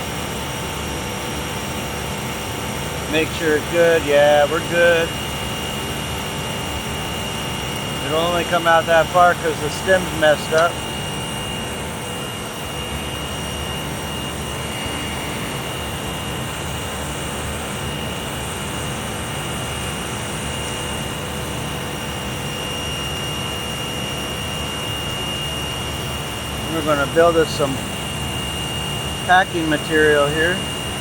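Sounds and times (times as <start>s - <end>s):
constant high whine: 0.0s - 31.0s
machinery drone: 0.0s - 31.0s.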